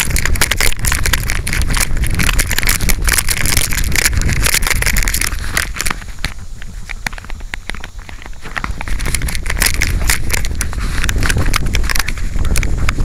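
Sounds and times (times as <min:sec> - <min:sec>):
harness straps rubbing on microphone: 0:00.0 - 0:13.0.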